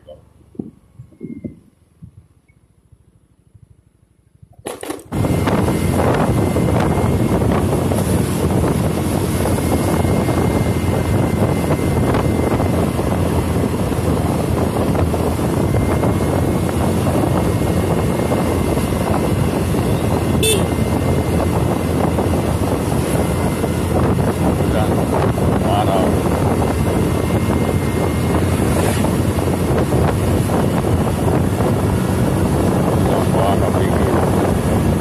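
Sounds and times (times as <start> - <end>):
wind on microphone: 0.0 - 2.4, 4.4 - 35.0
motorcycle engine and tyre noise: 0.0 - 35.0.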